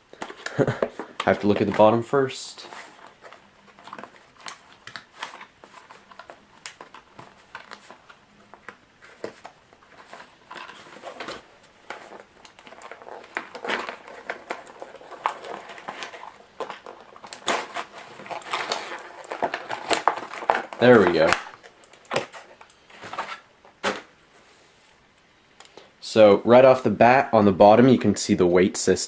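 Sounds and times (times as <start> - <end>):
plastic packaging crinkling: 0.1 - 24.2.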